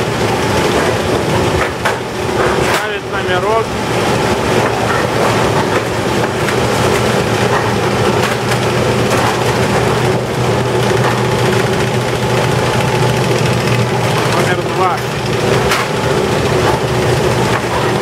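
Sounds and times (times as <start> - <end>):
processing machinery drone: 0.0 - 18.0.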